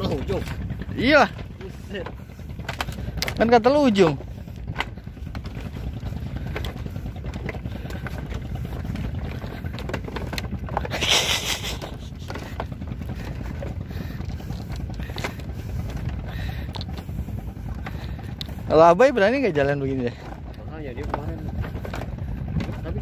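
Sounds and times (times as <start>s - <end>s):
footsteps on bamboo walkway: 0.0s - 23.0s
low rumble: 0.0s - 23.0s.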